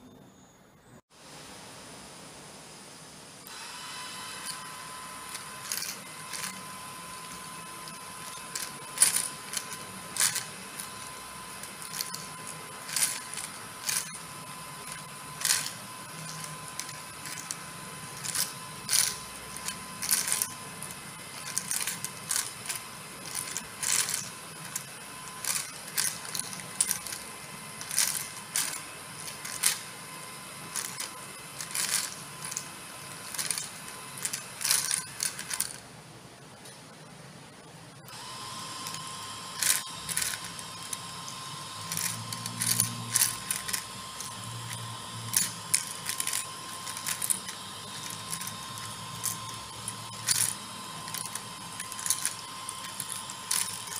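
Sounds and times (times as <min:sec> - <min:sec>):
small motor humming: 0:03.4 - 0:35.8, 0:38.0 - 0:53.9
plastic beads clicking and clattering: 0:04.4 - 0:35.8, 0:38.8 - 0:53.9.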